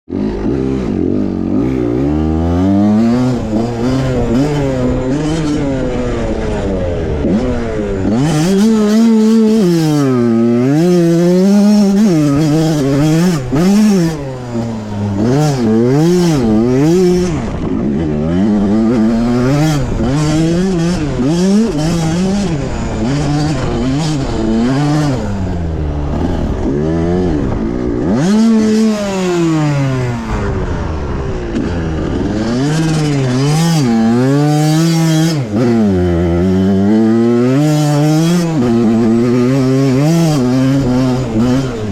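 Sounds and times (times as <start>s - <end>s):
motorbike engine revving: 0.1s - 41.9s.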